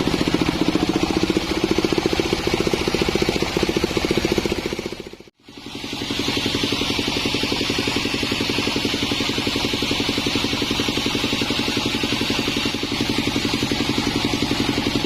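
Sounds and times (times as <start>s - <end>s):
bandsaw machinery pulsing: 0.0s - 15.0s.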